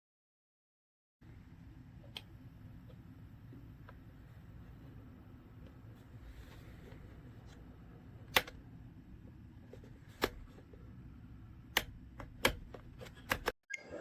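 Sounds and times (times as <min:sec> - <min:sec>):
low steady hum: 0:01.2 - 0:14.0.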